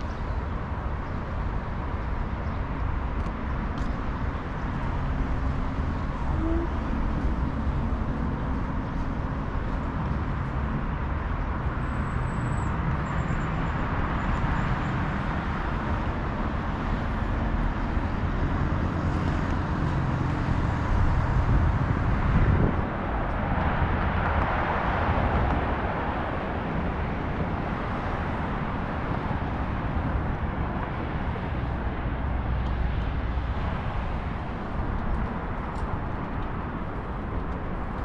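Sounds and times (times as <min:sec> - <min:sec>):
passing cars rumble: 0:00.0 - 0:38.0.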